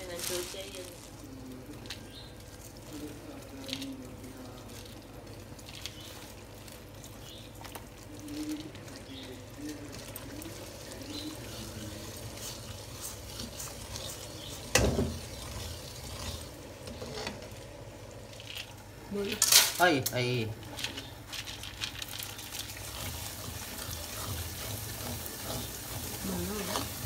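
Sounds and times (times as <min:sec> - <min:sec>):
ladle stirring in a pan: 0:00.0 - 0:19.0, 0:20.6 - 0:27.0
halwa simmering in a pan: 0:00.0 - 0:19.2, 0:20.0 - 0:27.0.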